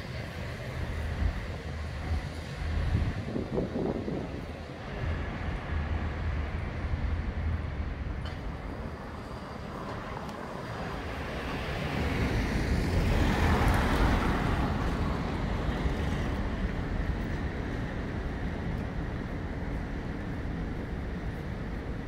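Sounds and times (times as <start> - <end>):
street traffic: 0.0 - 22.0
wind rumble on microphone: 0.0 - 22.0.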